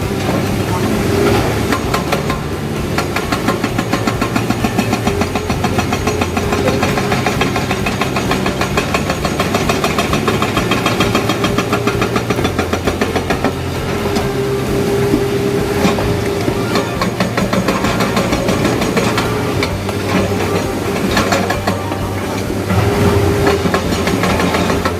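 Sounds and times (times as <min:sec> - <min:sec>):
diesel engine running: 0:00.0 - 0:24.9
hydraulic rock breaker hammering: 0:00.0 - 0:24.9.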